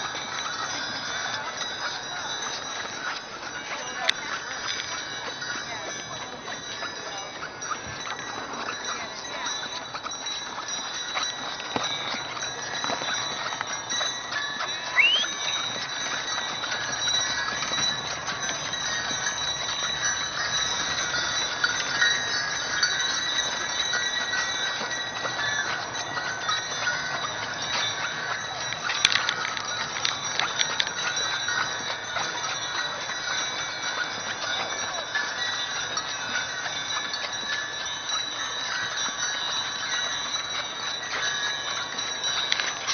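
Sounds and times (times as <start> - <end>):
sleigh bells jingling: 0.0 - 42.9.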